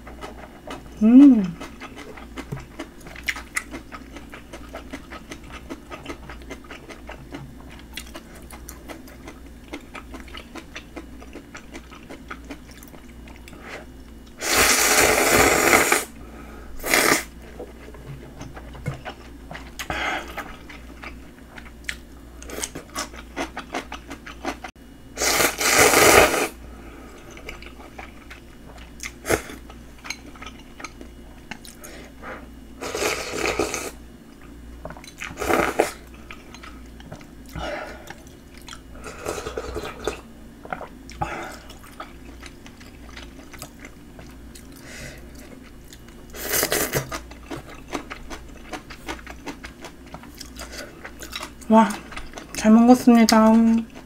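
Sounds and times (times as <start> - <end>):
person chewing: 0.0 - 16.1, 16.8 - 26.5, 27.2 - 32.2, 32.8 - 52.6.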